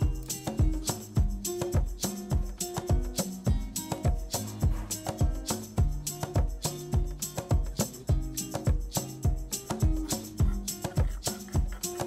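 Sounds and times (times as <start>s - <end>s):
music with steady beat: 0.0s - 12.0s.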